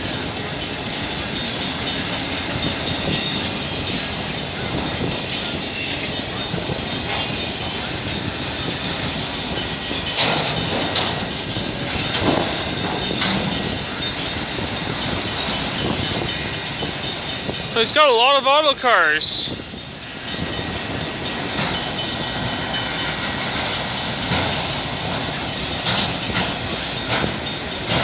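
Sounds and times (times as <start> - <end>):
freight train cars rolling: 0.0 - 28.0.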